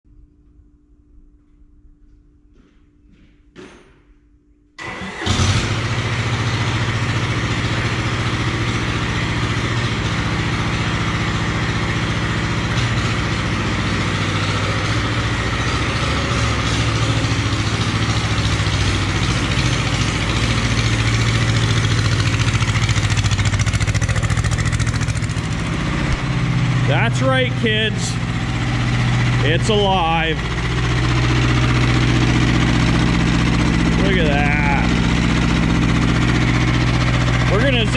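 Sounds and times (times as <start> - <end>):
small diesel engine starting and running: 4.8 - 37.9.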